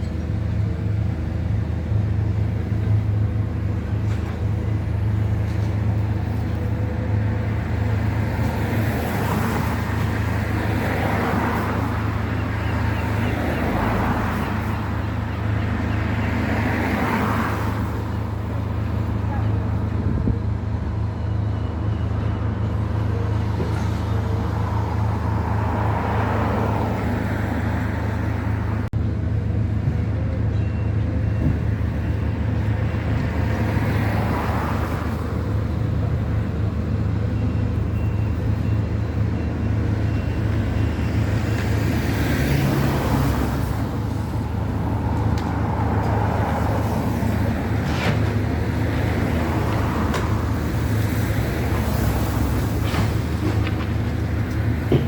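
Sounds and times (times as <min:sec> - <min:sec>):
traffic passing: 0:00.0 - 0:55.0.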